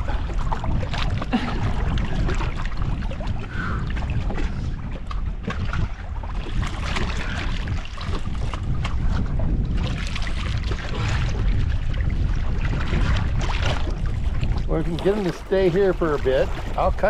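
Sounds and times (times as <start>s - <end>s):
water sloshing and splashing: 0.0s - 17.0s
wind buffeting microphone: 0.0s - 17.0s.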